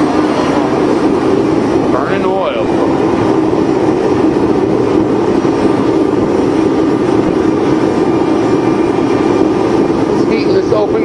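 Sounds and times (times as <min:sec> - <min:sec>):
furnace flame rushing: 0:00.0 - 0:11.0.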